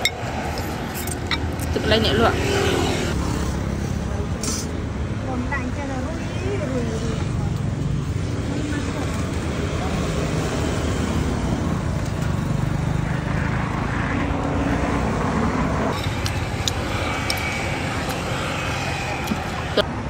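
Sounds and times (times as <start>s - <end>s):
busy street traffic rumble: 0.0s - 20.0s.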